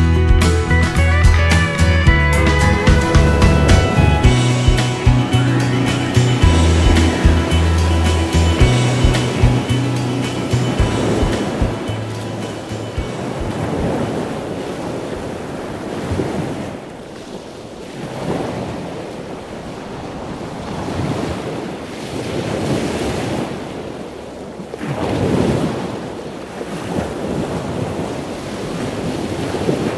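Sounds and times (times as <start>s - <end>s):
sea waves washing onto shore: 1.1s - 29.9s.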